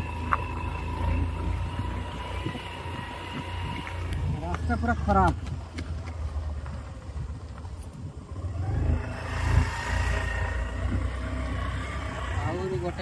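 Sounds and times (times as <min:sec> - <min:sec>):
road noise hiss and whine: 0:00.0 - 0:13.0
vehicle engine rumble: 0:00.0 - 0:13.0.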